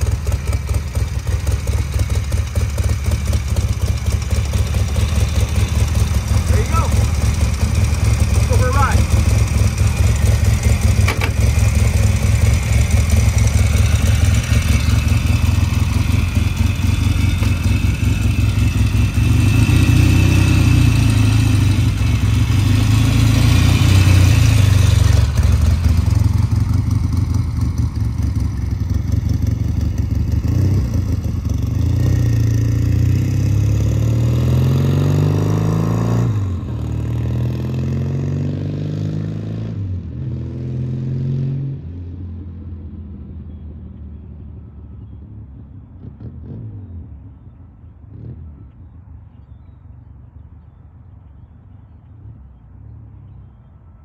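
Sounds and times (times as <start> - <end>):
motorcycle engine accelerating: 0.0 - 43.7.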